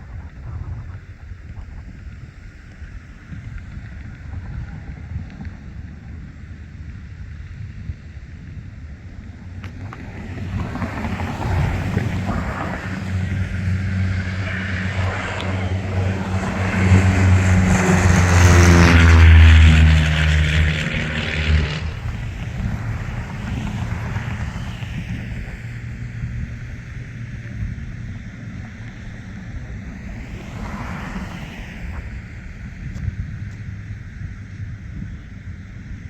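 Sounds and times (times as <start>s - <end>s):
propeller airplane flying overhead: 0.0s - 36.0s.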